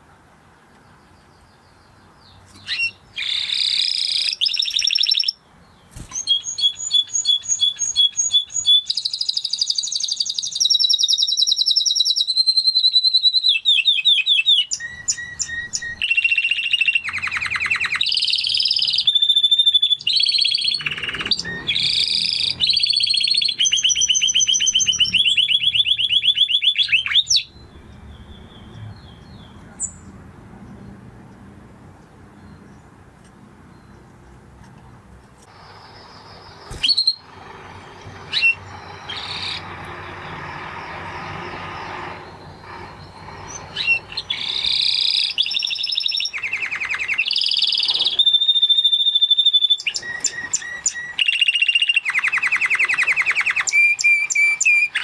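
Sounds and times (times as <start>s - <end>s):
canary singing trills: 0.7s - 31.0s, 35.4s - 55.0s.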